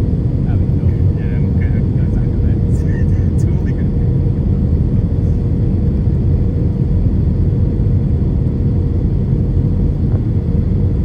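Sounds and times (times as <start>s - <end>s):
airliner engines rumbling: 0.0s - 11.0s.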